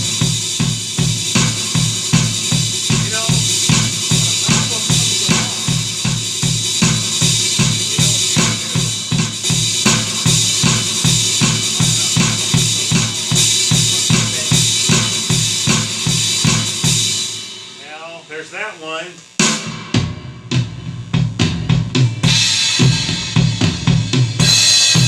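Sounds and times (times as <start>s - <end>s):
electronic drum kit rock groove: 0.0s - 25.0s.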